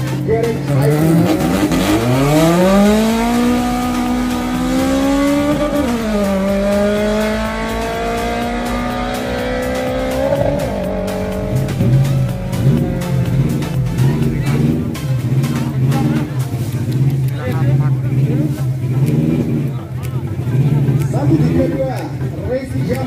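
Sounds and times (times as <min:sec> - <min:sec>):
racing car engine accelerating hard: 0:00.0 - 0:23.0.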